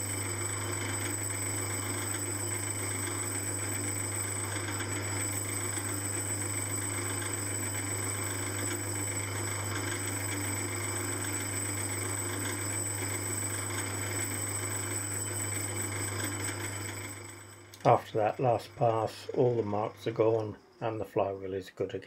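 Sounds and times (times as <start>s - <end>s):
metal lathe running: 0.0s - 21.0s.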